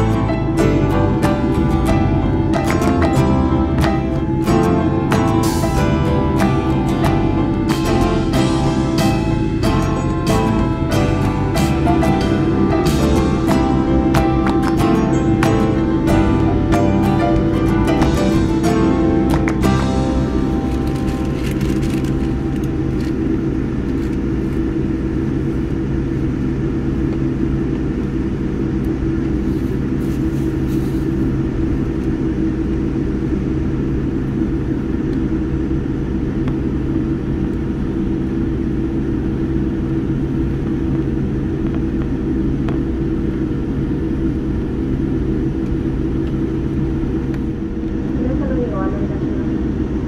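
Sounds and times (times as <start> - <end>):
airliner cabin drone: 0.0 - 50.0.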